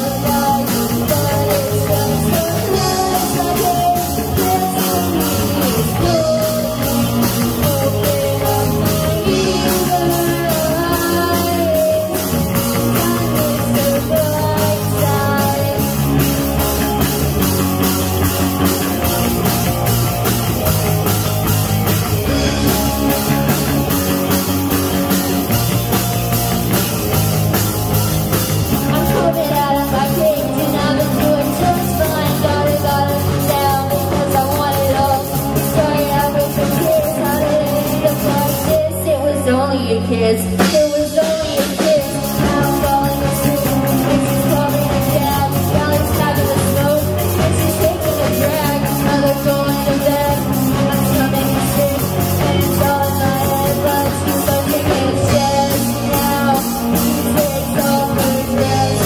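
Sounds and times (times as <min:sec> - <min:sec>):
female singer: 0:00.0 - 0:27.6, 0:28.2 - 0:59.0
drum kit: 0:00.0 - 0:59.0
electric bass: 0:00.0 - 0:59.0
electric guitars: 0:00.0 - 0:59.0
keyboard: 0:00.0 - 0:59.0.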